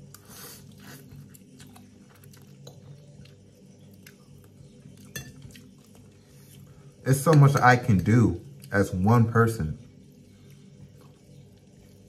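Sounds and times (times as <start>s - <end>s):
man chewing with wet clicks: 0.0s - 6.8s, 8.0s - 8.8s, 9.8s - 12.0s.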